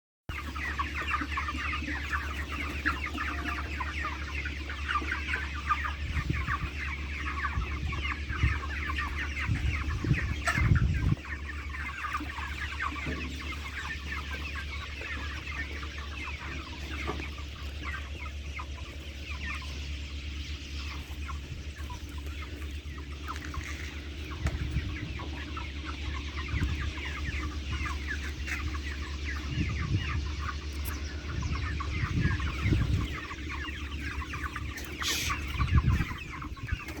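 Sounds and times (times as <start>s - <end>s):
chickens clucking: 0.3s - 37.0s.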